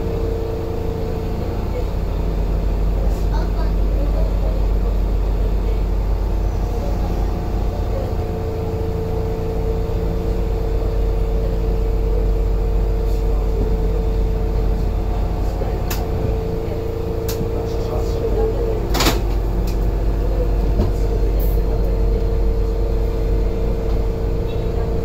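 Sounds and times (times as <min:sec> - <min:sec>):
even hum: 0:00.0 - 0:25.0
tram interior rumble: 0:00.0 - 0:25.0.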